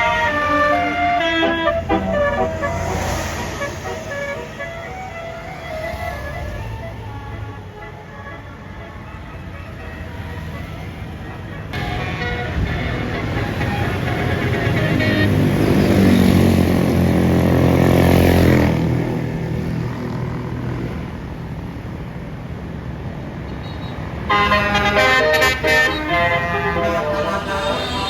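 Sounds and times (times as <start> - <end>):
multi-tone bus horn melody: 0.0 - 18.4, 23.5 - 28.0
bus engine running loud: 0.0 - 23.5, 24.1 - 28.0.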